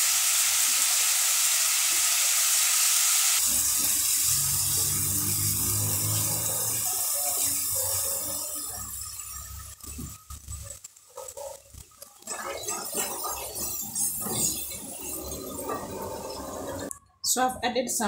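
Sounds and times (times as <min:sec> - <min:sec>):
sauce sizzling in a pot: 0:00.0 - 0:16.9.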